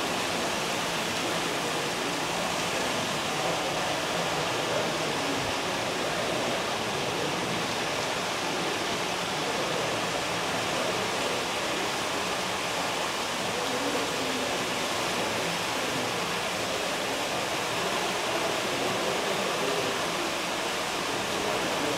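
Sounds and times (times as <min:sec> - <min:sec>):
falling water rushing: 0:00.0 - 0:21.9.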